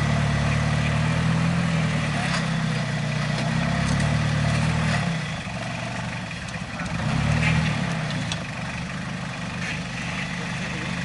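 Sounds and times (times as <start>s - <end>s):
off-road vehicle engine at low revs: 0.0s - 11.0s.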